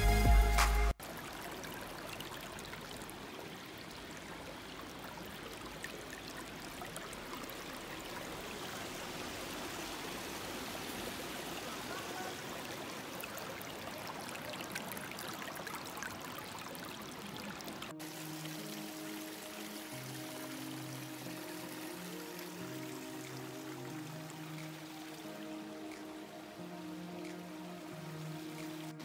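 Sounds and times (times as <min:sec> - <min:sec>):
creek water trickling over stones: 0:00.0 - 0:29.0.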